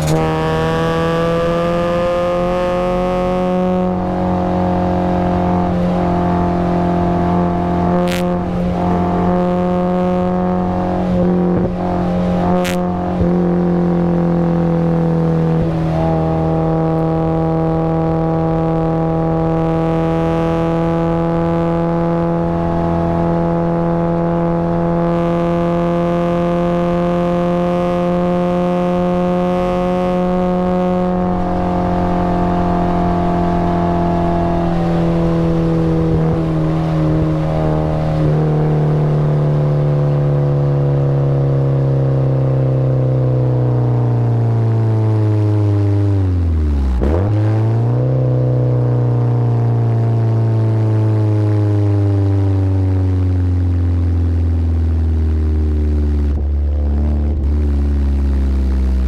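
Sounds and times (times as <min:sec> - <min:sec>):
car engine revving high: 0:00.0 - 0:59.0.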